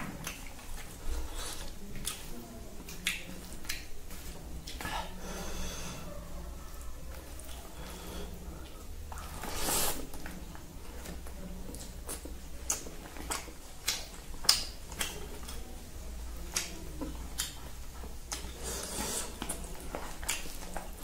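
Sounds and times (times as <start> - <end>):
wet chewing smacks: 0.0 - 5.2, 8.5 - 21.0.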